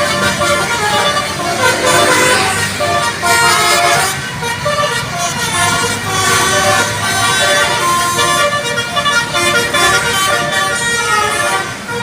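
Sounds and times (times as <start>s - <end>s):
melodic bus horns: 0.0s - 12.0s.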